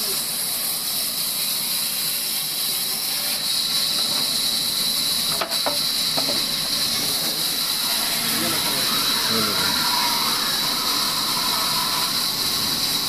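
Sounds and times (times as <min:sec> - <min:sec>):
band saw cutting timber: 0:00.0 - 0:13.0.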